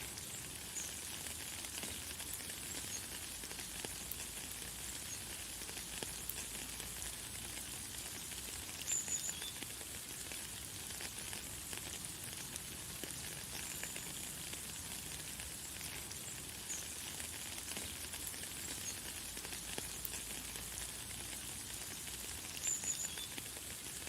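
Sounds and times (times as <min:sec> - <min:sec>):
light rain hissing: 0:00.0 - 0:24.0.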